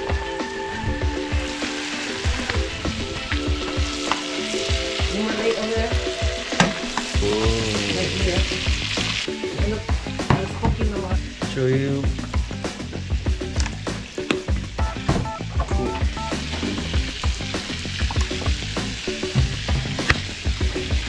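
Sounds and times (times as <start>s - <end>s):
fish sizzling in a pan: 0.0s - 21.0s.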